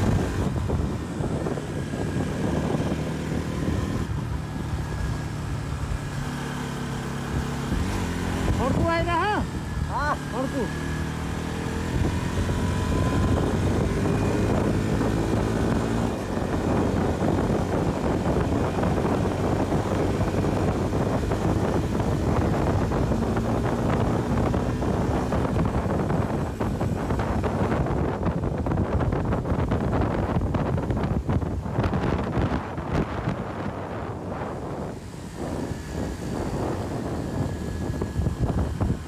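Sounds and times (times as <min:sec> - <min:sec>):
motorcycle engine running: 0:00.0 - 0:39.0
wind on microphone: 0:00.0 - 0:39.0.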